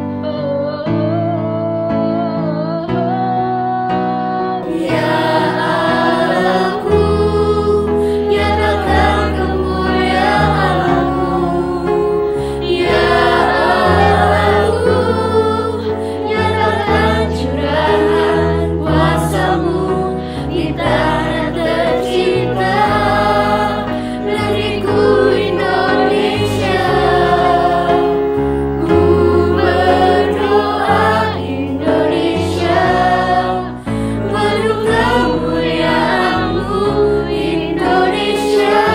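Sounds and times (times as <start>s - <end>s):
youth choir singing in harmony: 4.0s - 38.9s.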